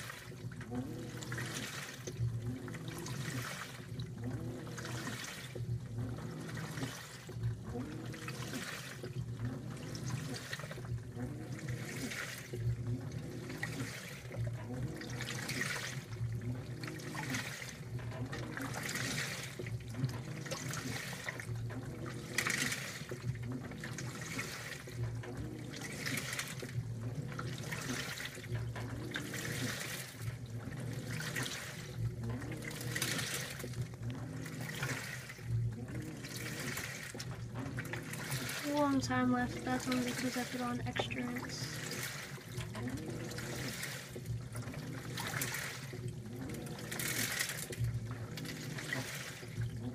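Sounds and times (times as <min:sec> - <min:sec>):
steady low hum: 0:00.0 - 0:49.9
washing machine water sloshing: 0:00.0 - 0:49.9.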